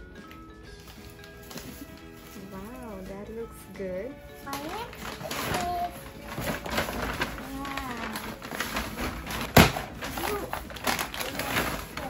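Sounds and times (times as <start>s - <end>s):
rustling and handling noises: 0.0s - 12.0s.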